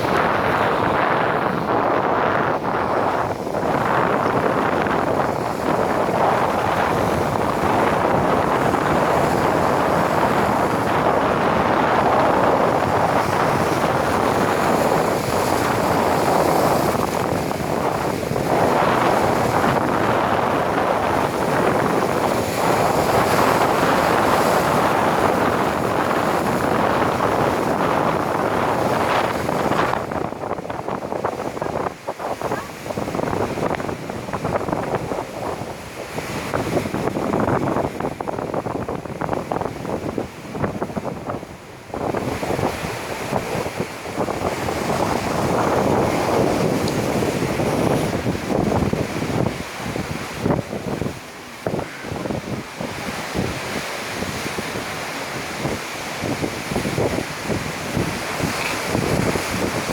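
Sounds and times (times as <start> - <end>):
surf washing: 0.0 - 59.9
wind buffeting microphone: 0.0 - 59.9.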